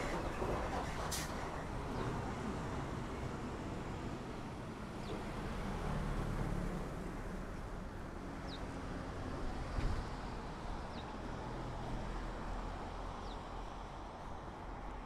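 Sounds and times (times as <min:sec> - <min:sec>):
traffic engine and tyre rumble: 0:00.0 - 0:15.0.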